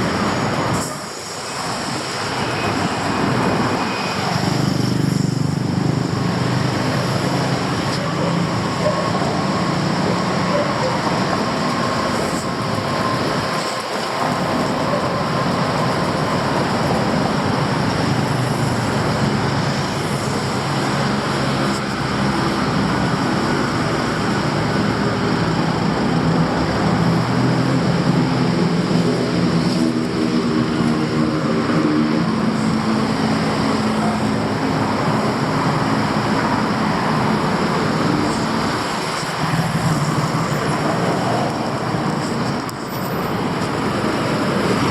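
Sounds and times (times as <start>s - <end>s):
city traffic noise: 0.0s - 44.9s
heavy vehicle engine hum: 0.0s - 44.9s.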